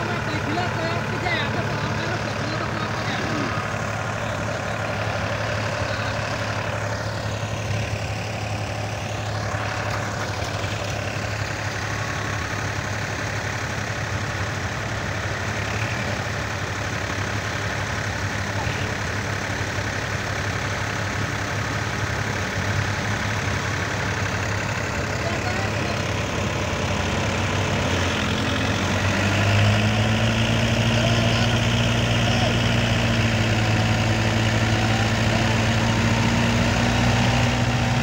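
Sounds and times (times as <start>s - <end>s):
tractor engine idling: 0.0s - 38.0s.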